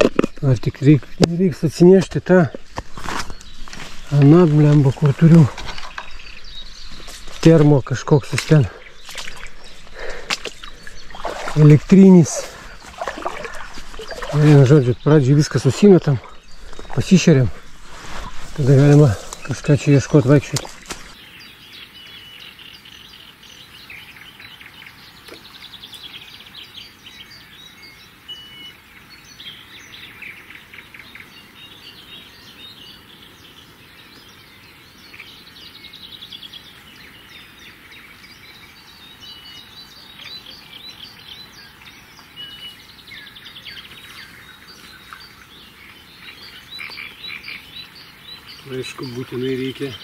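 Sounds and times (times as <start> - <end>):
songbirds chirping and trilling: 0.0 - 50.0.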